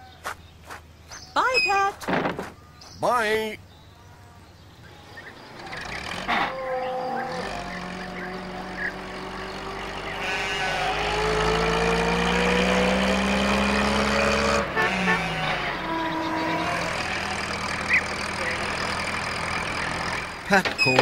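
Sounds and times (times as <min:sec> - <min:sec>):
van engine driving past: 0:03.8 - 0:20.9.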